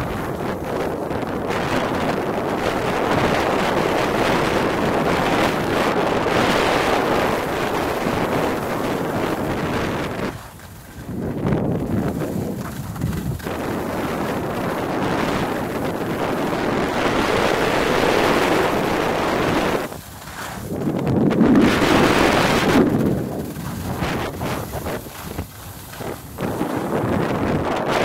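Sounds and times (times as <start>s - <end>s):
wind buffeting phone microphone: 0.0s - 28.0s.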